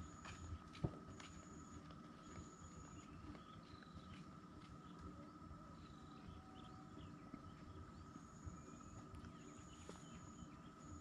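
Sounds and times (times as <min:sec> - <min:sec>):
low rumble of wind: 0:00.0 - 0:11.0
steady faint hum: 0:00.0 - 0:11.0.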